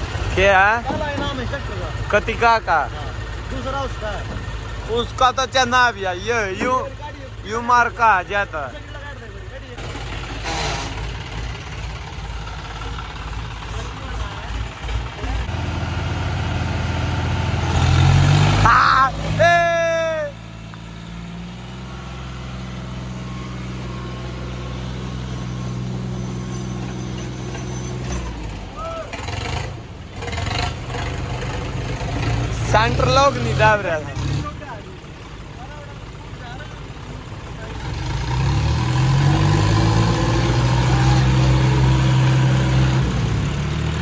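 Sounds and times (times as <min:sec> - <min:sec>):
diesel tractor engines droning: 0:00.0 - 0:44.0.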